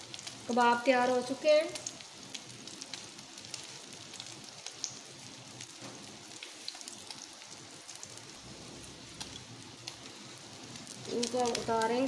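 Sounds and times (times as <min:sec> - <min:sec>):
kebabs frying in oil: 0:00.0 - 0:12.0.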